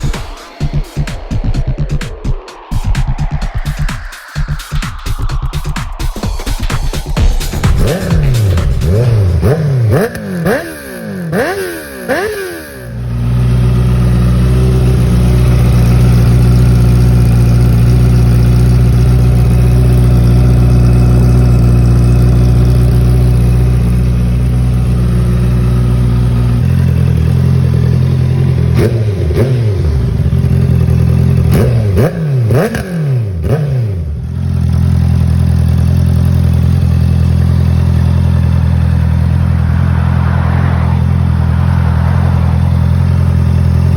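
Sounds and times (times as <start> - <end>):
motorcycle engine revving: 6.7 - 43.9.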